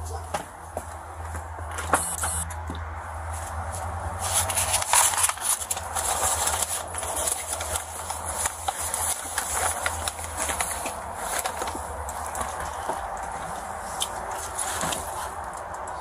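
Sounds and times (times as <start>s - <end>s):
camera rustling and scraping: 1.6s - 2.6s, 3.2s - 15.7s.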